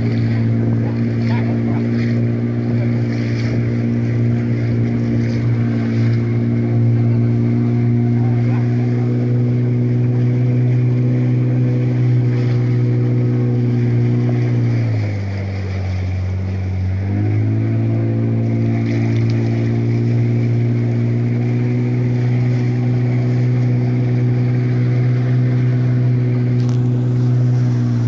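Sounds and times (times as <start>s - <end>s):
outboard motor droning: 0.0s - 28.0s.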